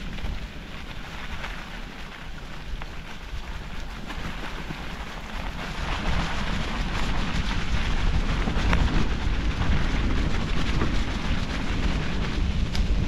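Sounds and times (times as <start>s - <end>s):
bicycle tyres on dirt trail: 0.0s - 13.0s
wind rumbling on microphone: 0.0s - 13.0s.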